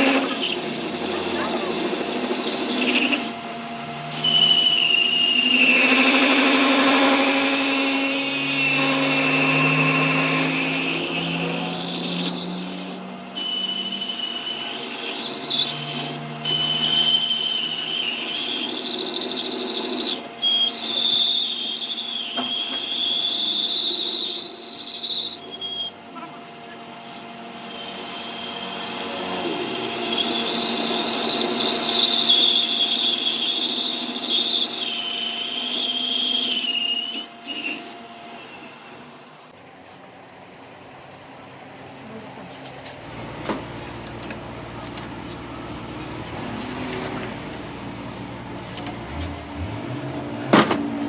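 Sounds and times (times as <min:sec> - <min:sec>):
power tool whining on metal: 0:00.0 - 0:39.6, 0:43.0 - 0:51.0.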